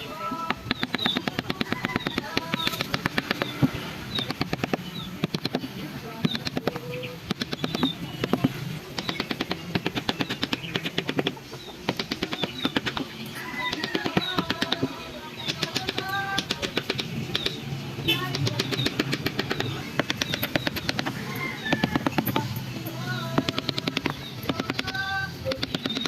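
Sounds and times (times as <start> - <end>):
bird chirping: 0.0 - 26.0
carving tools tapping wood: 0.0 - 26.0.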